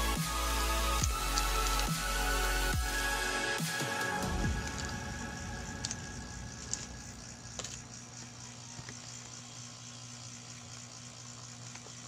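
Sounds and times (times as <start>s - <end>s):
electronic music low tones: 0.0s - 11.1s.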